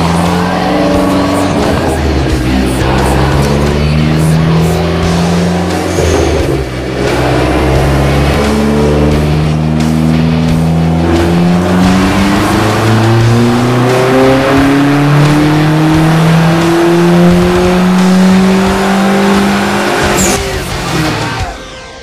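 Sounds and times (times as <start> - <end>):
turbocharged engine revving at full throttle: 0.0 - 21.4.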